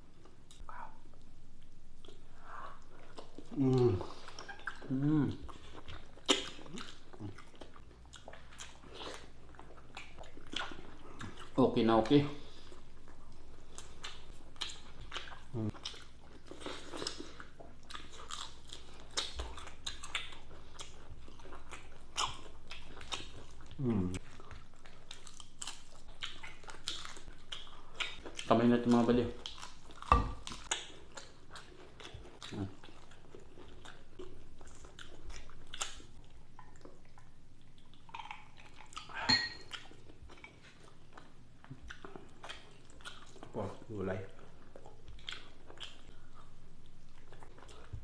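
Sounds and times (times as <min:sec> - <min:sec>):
crunchy food being chewed: 0:01.2 - 0:48.0.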